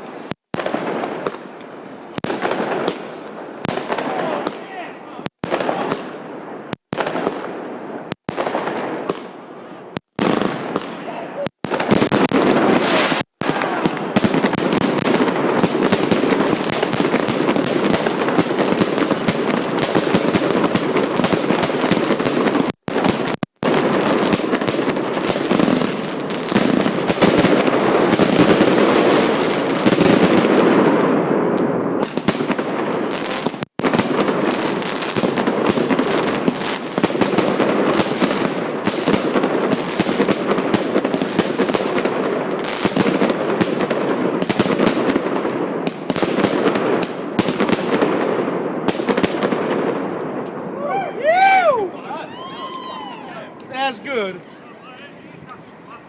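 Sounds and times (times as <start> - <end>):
fireworks crackling bangs: 0.0 - 56.0.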